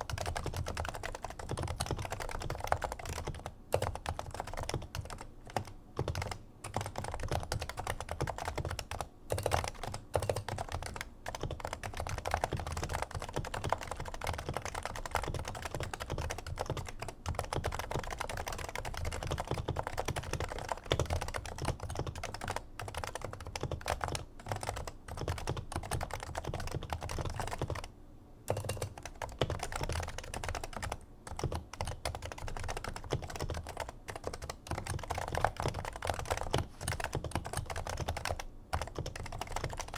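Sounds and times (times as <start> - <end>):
fast typing on keyboard: 0.0 - 27.9, 28.5 - 39.9.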